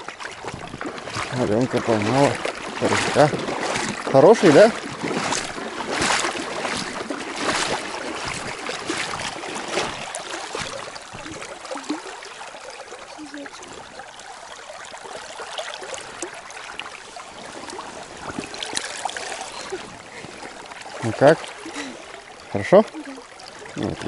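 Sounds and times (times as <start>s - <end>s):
river water trickling and burbling: 0.0s - 24.0s.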